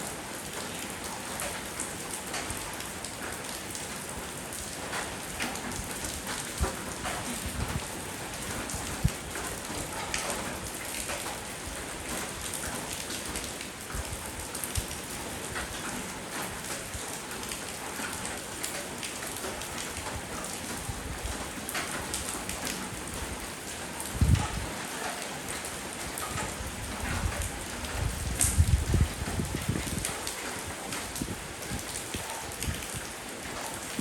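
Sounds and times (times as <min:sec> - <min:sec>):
rain on hard surfaces: 0:00.0 - 0:34.0.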